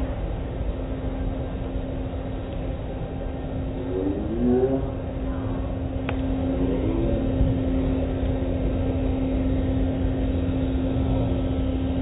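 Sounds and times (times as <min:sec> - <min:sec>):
car wash machinery humming: 0:00.0 - 0:12.0.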